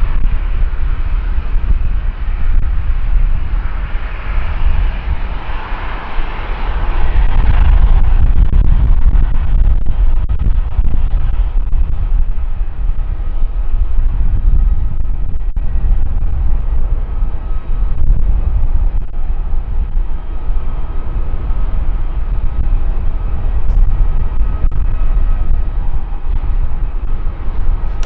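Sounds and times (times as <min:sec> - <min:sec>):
jet engines idling: 0:00.0 - 0:28.0.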